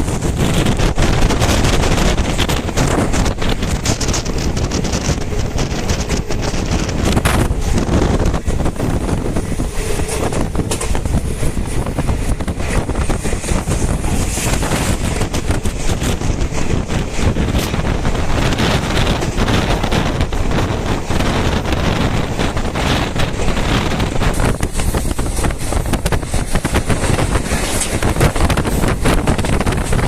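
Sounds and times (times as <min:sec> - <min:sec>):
train rumbling at speed: 0:00.0 - 0:30.0
wind buffeting microphone: 0:00.0 - 0:30.0.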